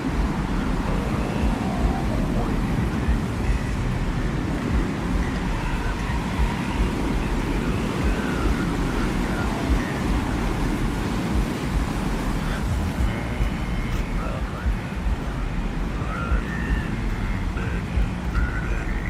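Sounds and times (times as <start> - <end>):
deep rumbling wind: 0.0 - 19.0
faint high wavering tones: 0.0 - 19.0.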